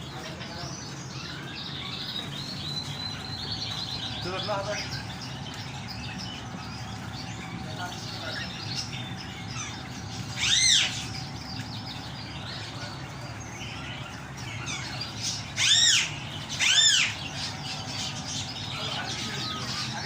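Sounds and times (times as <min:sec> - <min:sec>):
birds chirping and twittering: 0:00.0 - 0:20.0
rising and falling bird call: 0:00.8 - 0:20.0.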